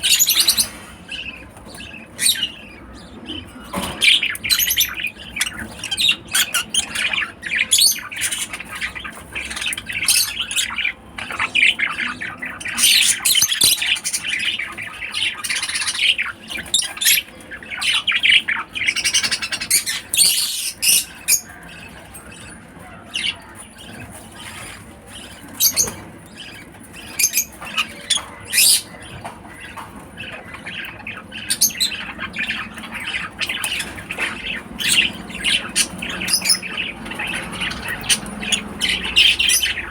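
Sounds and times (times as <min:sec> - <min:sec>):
lovebirds squawking and chirping: 0:00.0 - 0:39.9.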